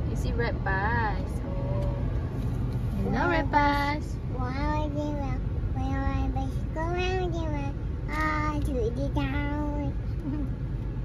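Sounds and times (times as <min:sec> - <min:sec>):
low car cabin rumble: 0:00.0 - 0:11.0.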